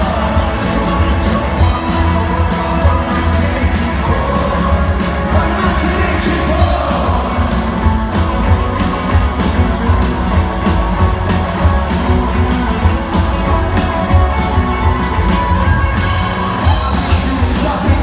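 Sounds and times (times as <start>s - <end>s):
bass guitar: 0.0s - 18.0s
drum kit fast beat: 0.0s - 18.0s
electric guitars: 0.0s - 18.0s.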